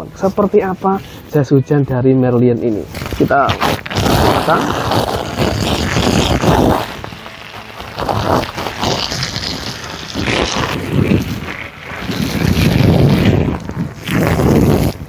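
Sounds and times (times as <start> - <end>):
hose water spraying on plastic: 2.9 - 15.0.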